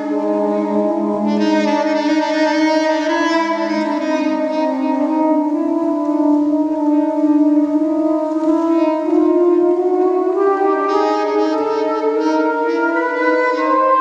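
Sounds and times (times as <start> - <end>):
soprano saxophones holding notes: 0.0 - 14.0.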